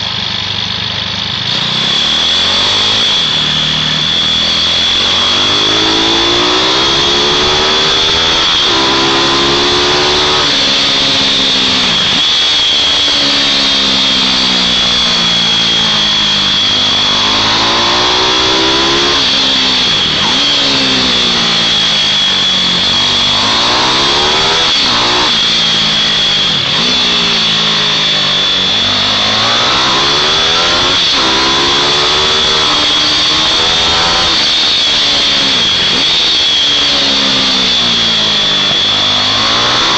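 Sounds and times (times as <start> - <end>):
mini bike engines revving: 0.0 - 39.9
steady high whine: 0.0 - 39.9.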